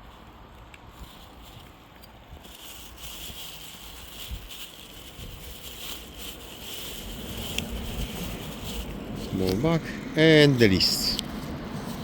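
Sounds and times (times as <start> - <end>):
bag and foil crinkling: 0.0 - 11.2.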